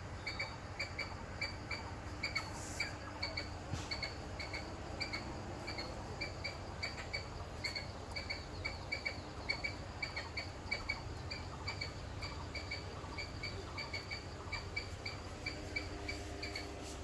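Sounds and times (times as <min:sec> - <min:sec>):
bird chirping: 0:00.1 - 0:16.8.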